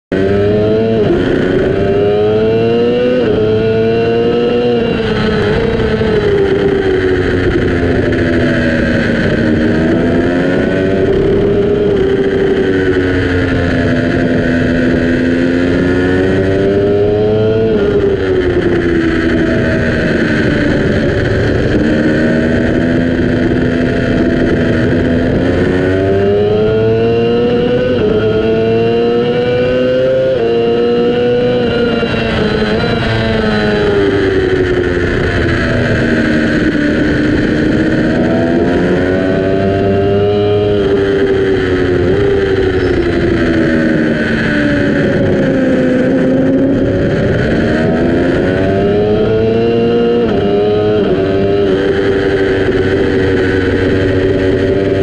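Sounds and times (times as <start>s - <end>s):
motorcycle engine revving high: 0.1s - 55.0s
wind rush: 0.1s - 55.0s.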